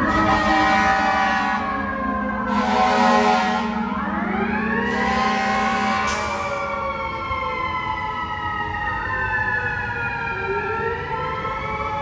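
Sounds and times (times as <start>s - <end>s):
fire truck siren wailing: 0.0s - 12.0s.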